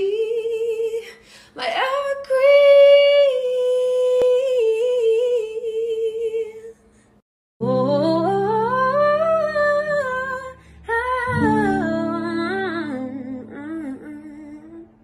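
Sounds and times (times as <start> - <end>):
woman singing: 0.0 - 6.8, 7.6 - 15.0.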